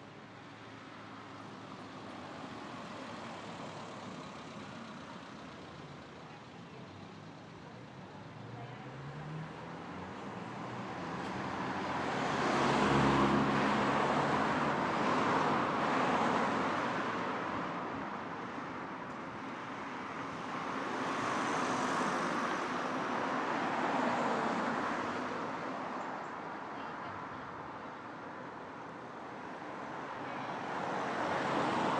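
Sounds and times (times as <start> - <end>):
vehicles passing: 0.0 - 31.9.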